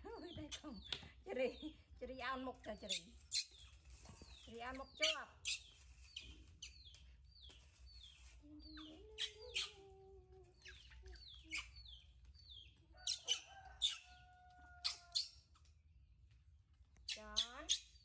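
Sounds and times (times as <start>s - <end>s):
small bird chirping: 0.1s - 15.8s, 16.9s - 18.0s.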